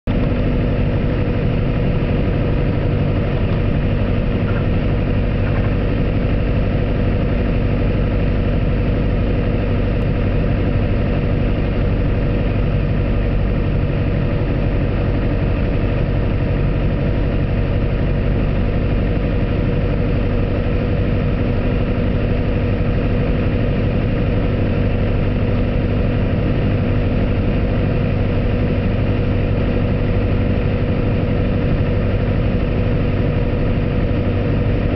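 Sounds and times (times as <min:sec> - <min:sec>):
piston engine and propeller droning: 0:00.0 - 0:34.9.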